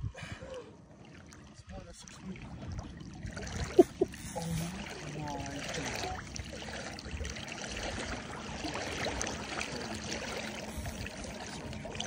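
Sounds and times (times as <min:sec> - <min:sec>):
river water lapping: 0:00.0 - 0:12.0.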